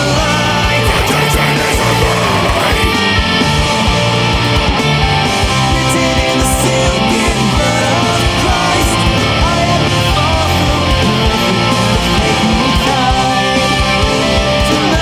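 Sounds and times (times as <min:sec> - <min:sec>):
death metal music: 0:00.0 - 0:15.0.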